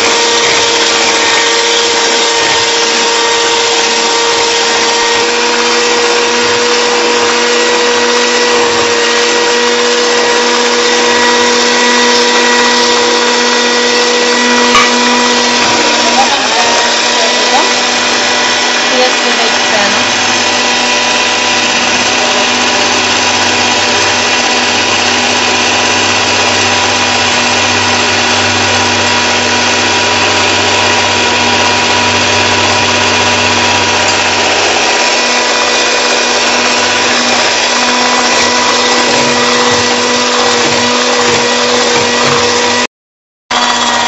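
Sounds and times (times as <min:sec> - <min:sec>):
electric hand mixer whipping cream: 0:00.0 - 0:42.9, 0:43.5 - 0:44.0.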